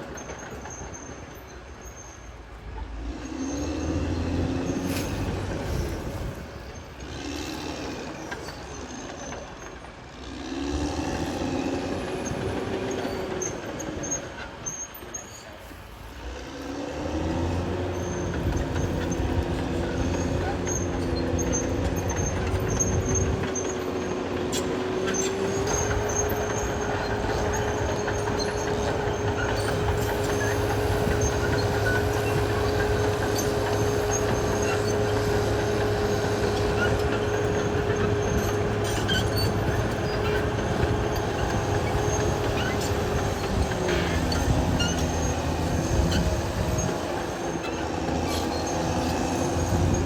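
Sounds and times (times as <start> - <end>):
bulldozer diesel engine working: 0.0 - 50.0.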